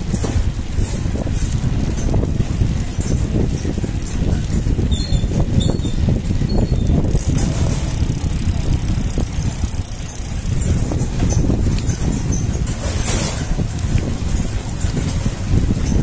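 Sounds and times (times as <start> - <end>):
bicycle tyre rumble: 0.0 - 16.0
wind buffeting microphone: 0.0 - 16.0.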